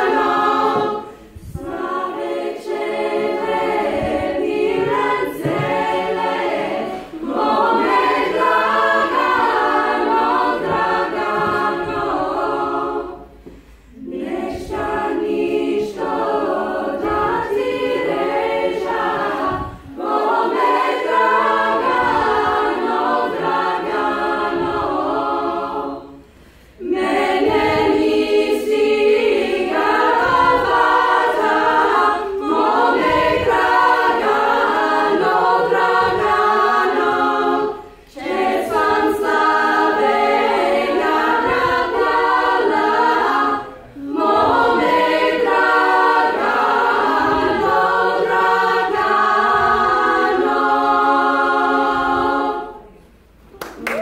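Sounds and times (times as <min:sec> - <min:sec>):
women's choir singing a cappella: 0:00.0 - 0:54.0.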